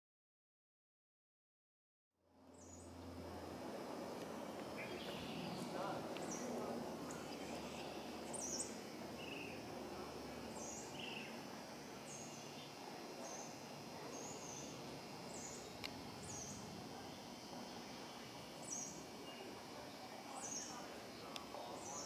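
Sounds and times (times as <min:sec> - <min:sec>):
low background hum: 0:02.3 - 0:22.0
small birds chirping: 0:02.5 - 0:03.0, 0:04.4 - 0:22.0.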